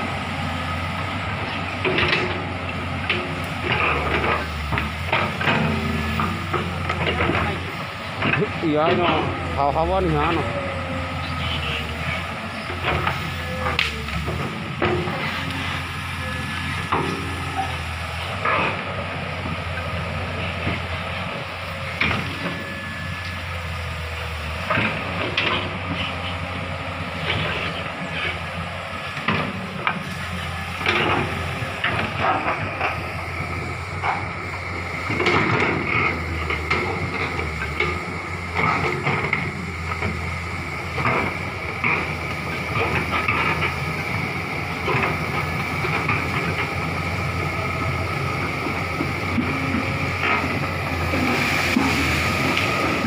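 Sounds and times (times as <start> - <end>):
excavator diesel engine running: 0.0 - 53.0
excavator bucket clattering through brush: 1.4 - 53.0.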